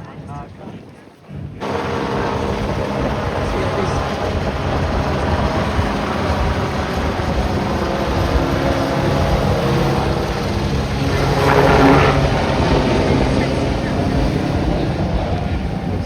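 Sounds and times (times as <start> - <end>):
wind rumble on microphone: 0.0 - 16.0
motor running: 1.6 - 16.0.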